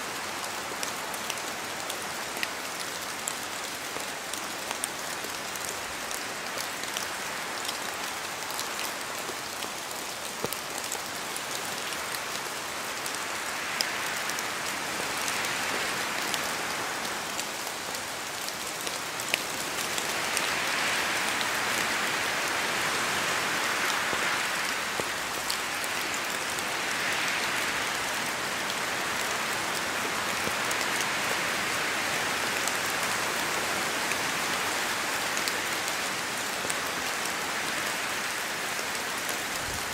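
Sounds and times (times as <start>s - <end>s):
rain falling through trees: 0.0s - 39.9s.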